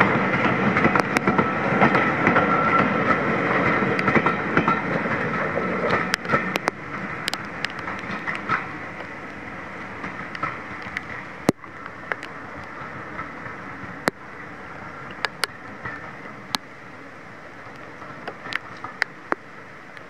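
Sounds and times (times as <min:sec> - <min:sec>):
rain hissing: 0:00.0 - 0:20.0
train rumbling: 0:00.0 - 0:20.0
raindrops tapping on camera: 0:00.8 - 0:02.4, 0:03.7 - 0:16.7, 0:17.6 - 0:20.0.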